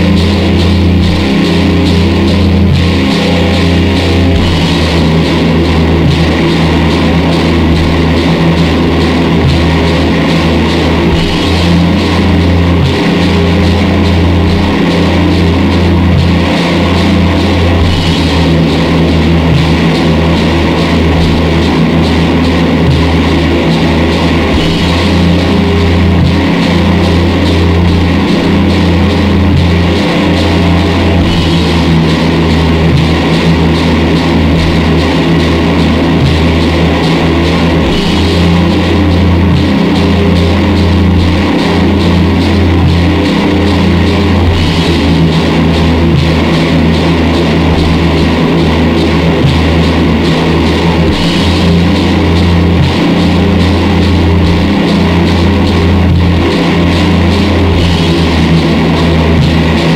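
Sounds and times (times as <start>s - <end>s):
dense noise music: 0.0s - 59.9s
low droning bass: 0.0s - 59.9s.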